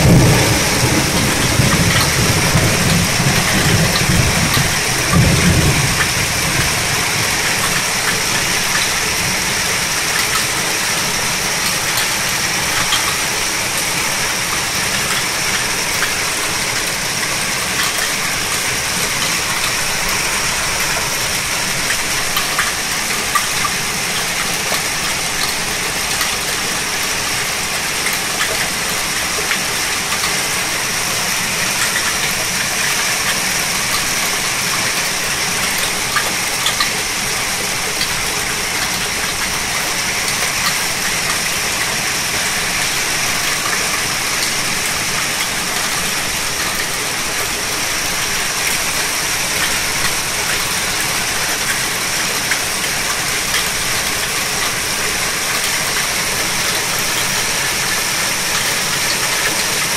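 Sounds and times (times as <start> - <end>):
rain hissing: 0.0 - 59.9
water rushing through street: 0.0 - 59.9.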